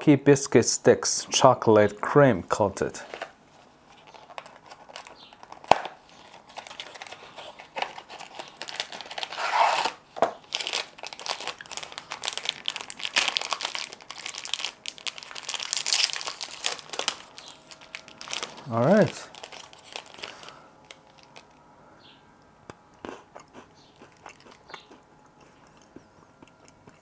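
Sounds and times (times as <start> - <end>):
snack package crinkling and tearing: 3.0 - 21.6, 23.0 - 26.9.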